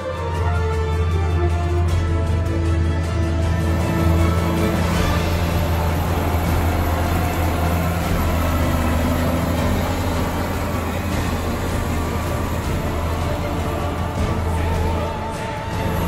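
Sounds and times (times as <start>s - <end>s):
tractor diesel engine running: 0.9s - 16.0s.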